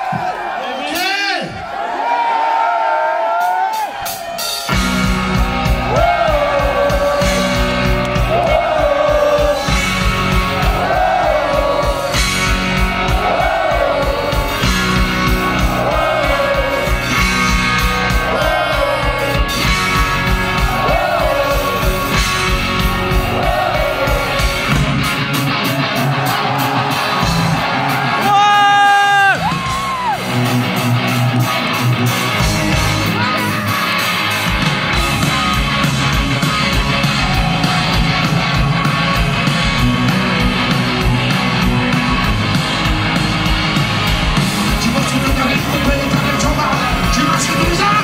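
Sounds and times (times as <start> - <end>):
live rock music: 3.4 - 48.0.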